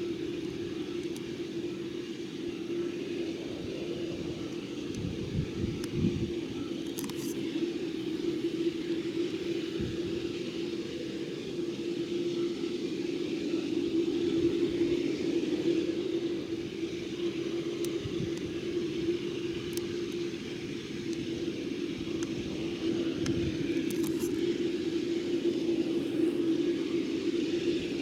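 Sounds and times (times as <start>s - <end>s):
jet engines droning: 0.0s - 28.0s.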